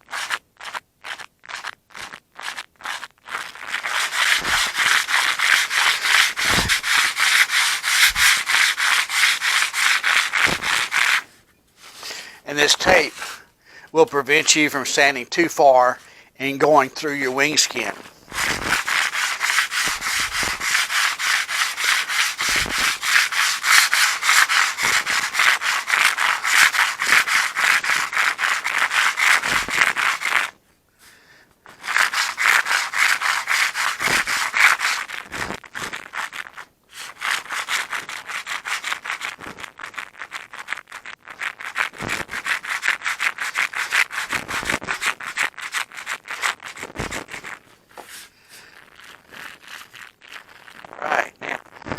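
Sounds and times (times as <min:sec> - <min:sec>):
sandpaper rubbing on wood: 0:00.0 - 0:11.3, 0:11.9 - 0:13.4, 0:16.6 - 0:30.6, 0:31.7 - 0:48.3.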